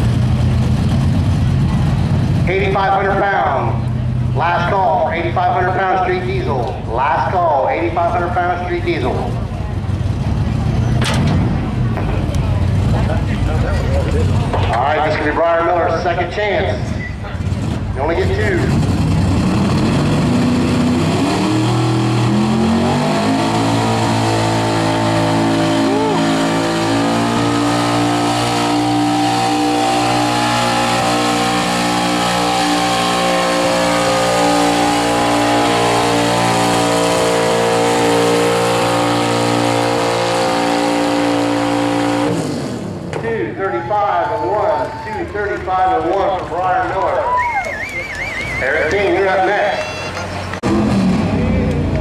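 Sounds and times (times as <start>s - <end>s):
diesel truck engine revving: 0.0s - 52.0s.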